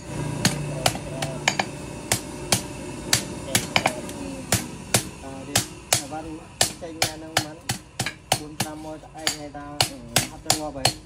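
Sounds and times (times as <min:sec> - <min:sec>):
hammer striking metal blade: 0:00.4 - 0:11.0.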